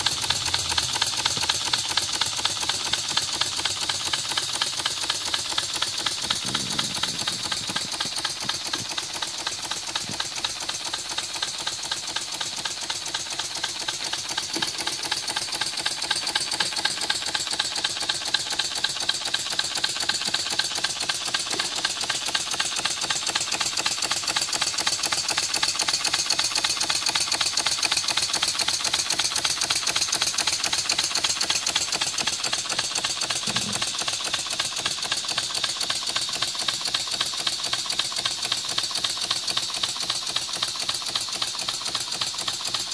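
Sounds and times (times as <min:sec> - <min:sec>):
steam engine running: 0:00.0 - 0:42.9
steam hissing: 0:00.0 - 0:42.9.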